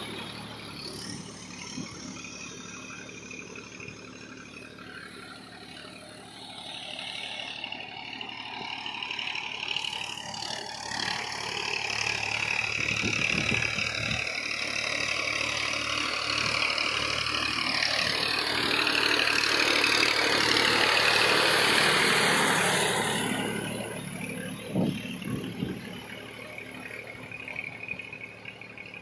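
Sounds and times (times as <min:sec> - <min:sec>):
tractor diesel engine working: 0:00.0 - 0:29.0.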